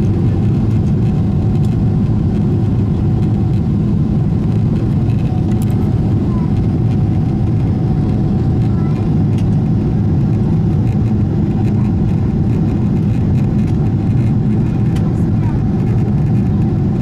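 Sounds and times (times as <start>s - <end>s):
engine and airflow rumble: 0.0s - 17.0s.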